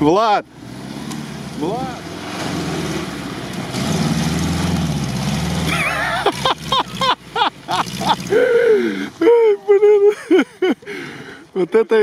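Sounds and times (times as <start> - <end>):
car engine droning under load: 0.0 - 11.6.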